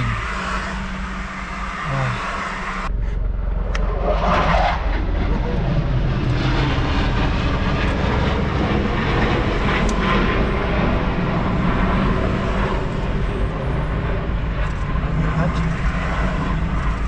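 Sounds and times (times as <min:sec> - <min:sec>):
aircraft engines rushing: 0:00.0 - 0:17.0.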